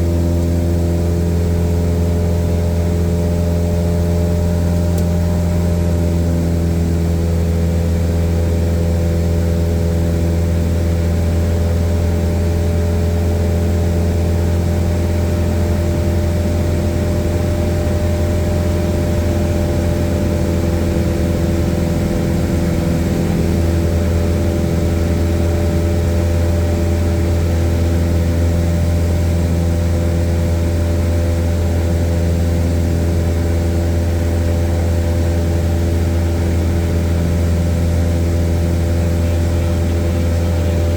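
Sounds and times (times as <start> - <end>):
airplane propeller engine droning: 0.0 - 40.9.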